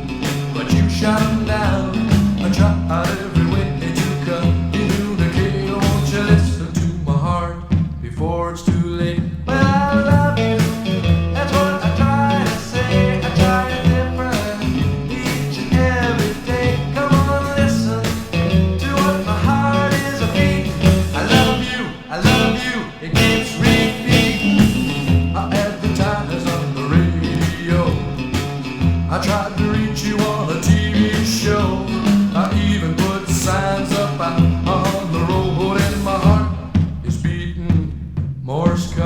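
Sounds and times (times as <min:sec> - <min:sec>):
melodic lead guitar line: 0:00.0 - 0:06.4, 0:09.6 - 0:36.4
rock band playing: 0:00.0 - 0:07.0, 0:09.3 - 0:37.1.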